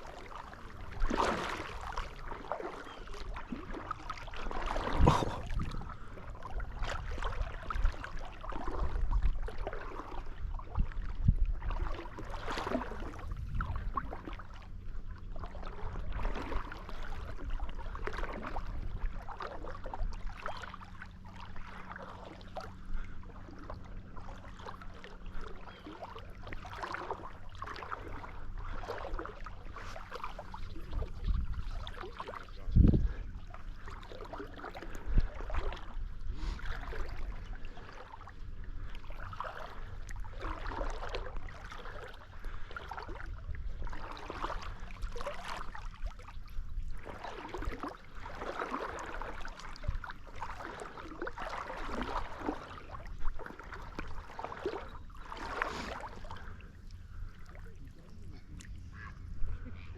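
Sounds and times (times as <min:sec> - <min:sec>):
low steady hum: 0:00.0 - 0:59.9
water splashing and swishing: 0:00.0 - 0:59.9.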